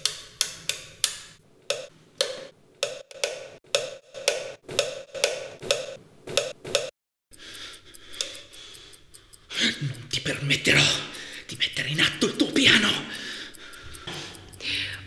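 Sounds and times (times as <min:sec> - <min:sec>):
sharp hollow ticking: 0:00.0 - 0:15.0.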